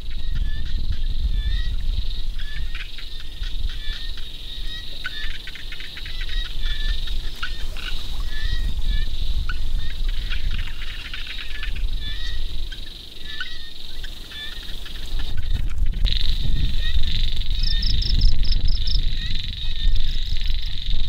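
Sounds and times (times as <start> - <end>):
high insect drone: 0.0 - 21.0
small birds chirping: 0.0 - 21.0.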